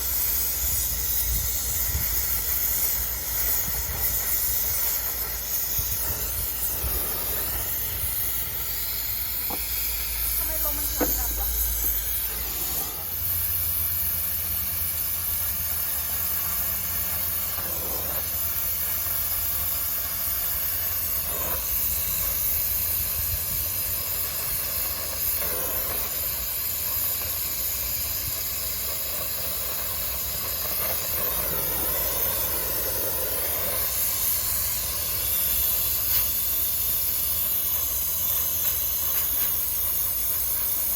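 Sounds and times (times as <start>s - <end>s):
welding torch hissing: 0.0s - 40.9s.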